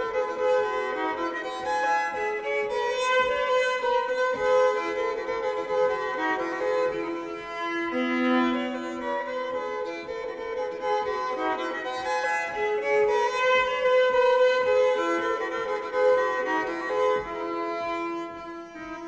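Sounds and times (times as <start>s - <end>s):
solo fiddle playing folk tune: 0.0s - 19.0s.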